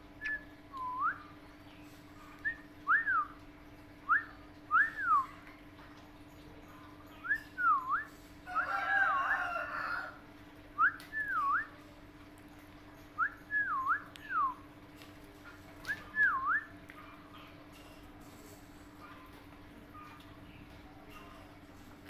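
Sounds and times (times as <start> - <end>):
chirpy chatter: 0.1 - 10.2, 10.8 - 22.0.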